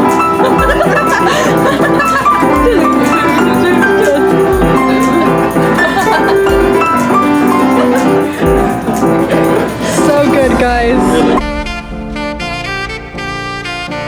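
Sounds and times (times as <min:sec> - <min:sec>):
melodic background music: 0:00.0 - 0:14.0
deep bass pulse: 0:00.5 - 0:06.9, 0:08.3 - 0:14.0.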